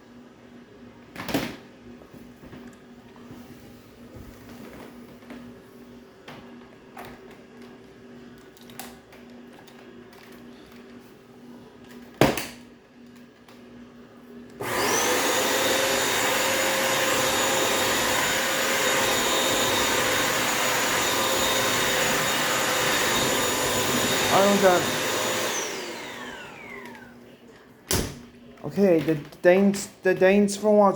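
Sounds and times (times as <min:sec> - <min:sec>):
floor cleaner running with whine: 0:00.0 - 0:27.6.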